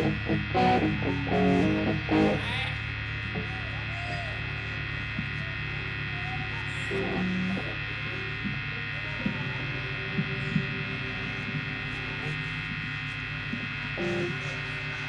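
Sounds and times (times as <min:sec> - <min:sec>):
electrical mains hum: 0:00.0 - 0:15.0
faint crowd chatter: 0:00.0 - 0:15.0.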